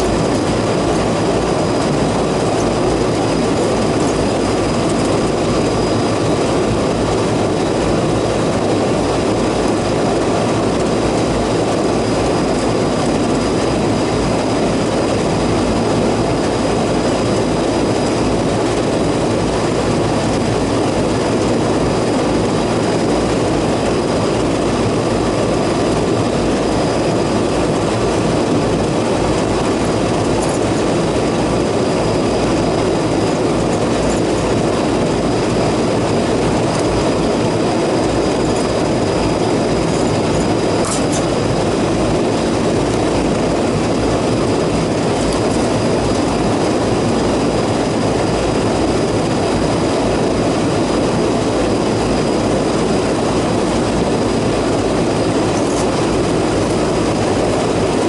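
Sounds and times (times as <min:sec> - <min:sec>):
air conditioning units droning: 0:00.0 - 0:58.0.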